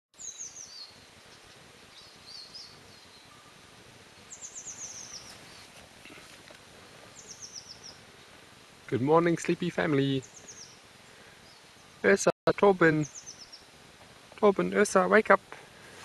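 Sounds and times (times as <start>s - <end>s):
faint background hiss: 0.2s - 16.0s
songbird singing: 0.2s - 16.0s.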